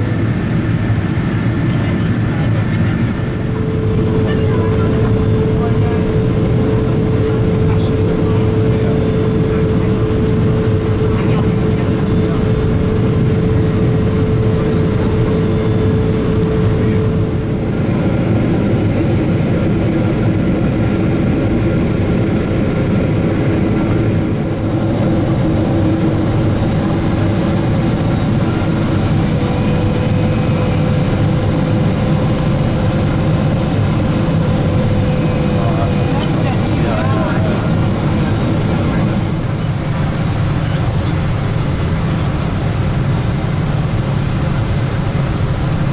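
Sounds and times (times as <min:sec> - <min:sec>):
aircraft cabin air rush: 0:00.0 - 0:45.9.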